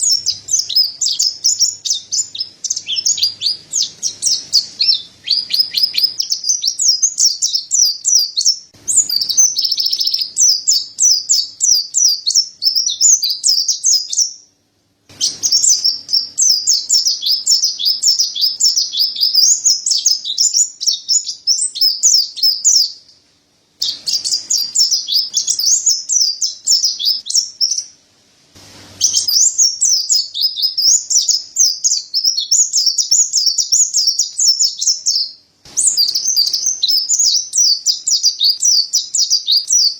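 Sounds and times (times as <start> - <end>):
bird twittering song: 0.0 - 23.2, 23.8 - 28.0, 28.9 - 39.9.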